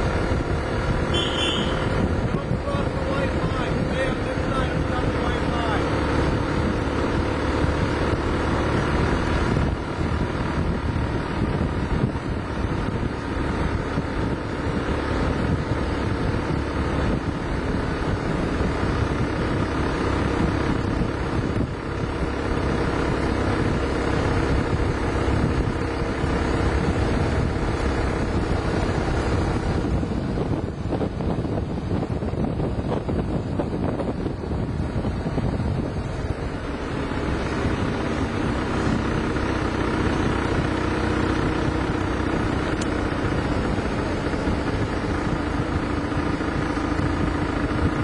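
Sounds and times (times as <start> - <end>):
vehicle engine droning: 0.0 - 48.0
wind buffeting microphone: 0.0 - 48.0.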